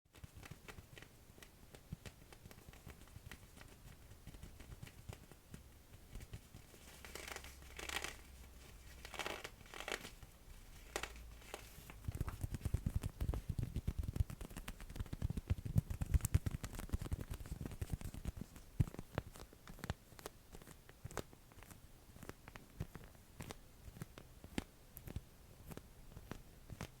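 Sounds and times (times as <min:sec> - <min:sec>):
sticky plastic crackling ticks: 0:00.1 - 0:08.3, 0:08.9 - 0:27.0.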